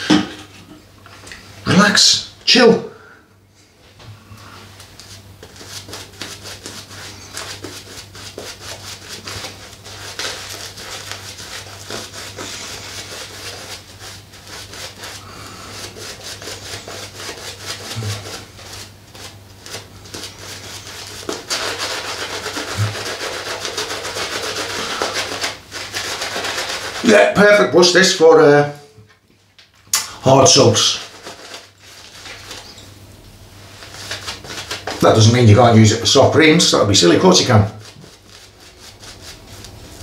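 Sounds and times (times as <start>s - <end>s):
shaving brush rubbing on skin: 4.8s - 28.4s, 30.3s - 32.9s, 33.6s - 40.0s.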